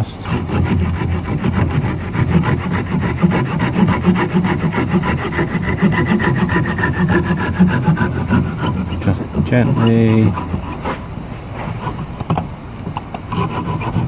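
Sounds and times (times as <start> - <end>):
pull saw cutting wooden dowels: 0.0 - 12.5, 13.2 - 14.0.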